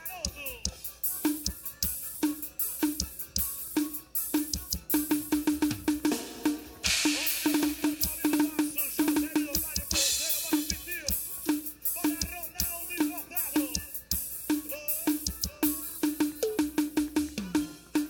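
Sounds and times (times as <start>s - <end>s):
drum kit groove: 0.0s - 18.0s
cymbals: 0.8s - 18.0s.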